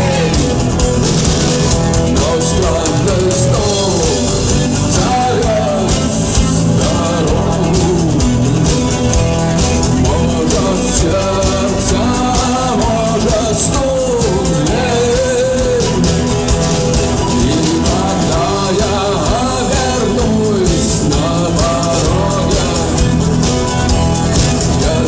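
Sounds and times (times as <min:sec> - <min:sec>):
person singing: 0:00.0 - 0:01.0, 0:02.0 - 0:09.0, 0:09.8 - 0:25.0
live rock band playing: 0:00.0 - 0:25.0.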